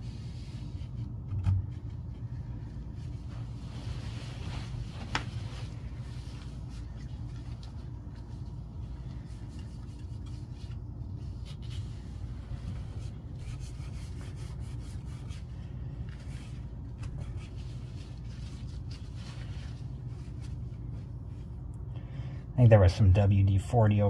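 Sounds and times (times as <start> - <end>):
paper towel wiping a door: 0.0 - 21.6
steady low hum: 0.0 - 24.0.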